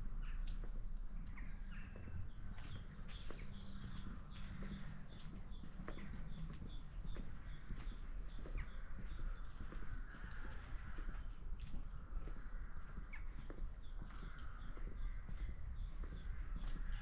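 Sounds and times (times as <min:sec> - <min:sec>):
footsteps on pavement: 0:00.0 - 0:17.0
low wind rumble: 0:00.0 - 0:17.0.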